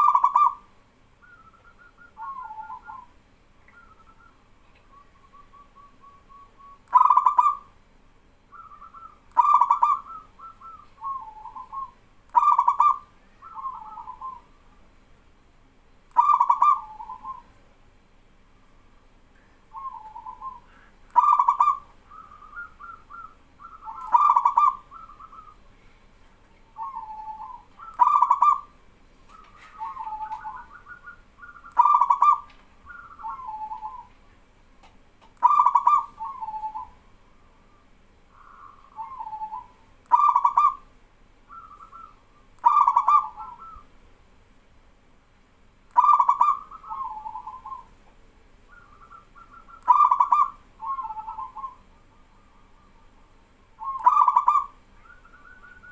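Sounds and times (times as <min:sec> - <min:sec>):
doves cooing: 0:00.0 - 0:07.7, 0:08.5 - 0:14.7, 0:16.1 - 0:17.6, 0:19.7 - 0:25.9, 0:26.7 - 0:34.4, 0:35.3 - 0:40.9, 0:41.5 - 0:43.9, 0:46.0 - 0:48.0, 0:48.6 - 0:55.9.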